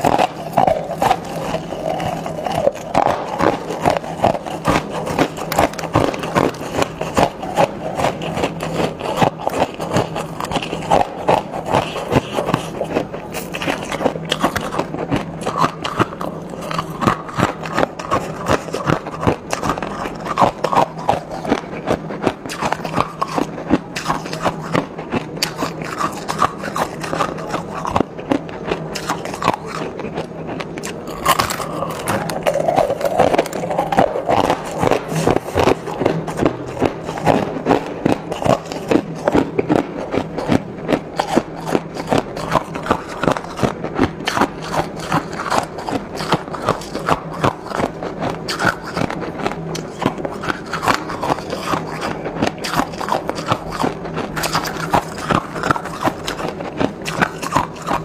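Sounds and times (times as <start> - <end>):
chewing ice crunches: 0.0 - 58.0.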